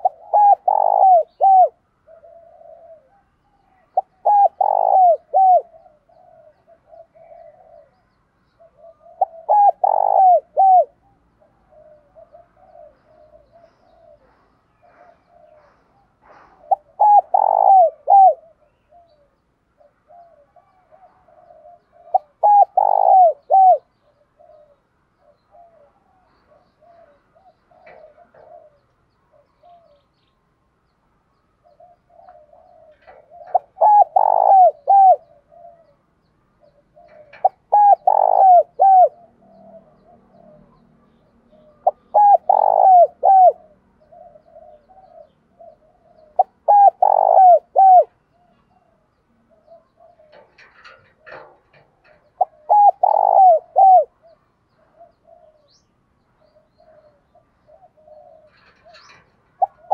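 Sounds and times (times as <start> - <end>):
dove cooing: 0.0 - 30.2, 31.6 - 59.9.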